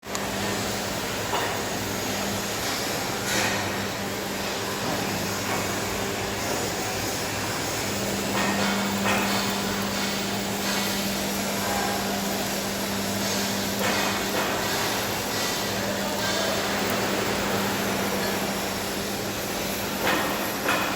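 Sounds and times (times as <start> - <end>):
industrial machinery roar: 0.0 - 20.9.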